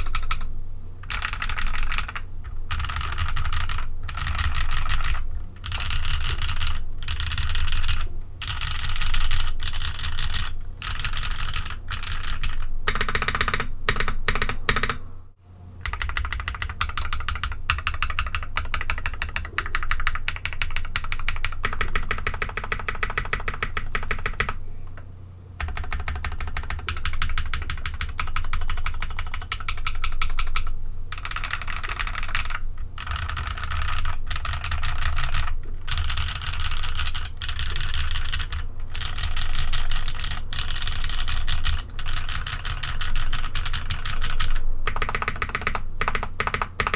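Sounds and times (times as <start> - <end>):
mechanical keyboard typing: 0.0 - 15.0, 15.8 - 24.6, 25.6 - 46.9.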